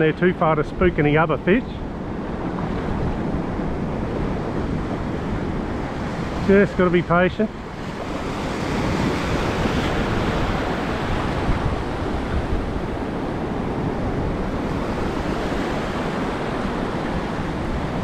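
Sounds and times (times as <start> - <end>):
surf washing over sand: 0.0 - 18.0
wind buffeting the microphone: 0.0 - 18.0.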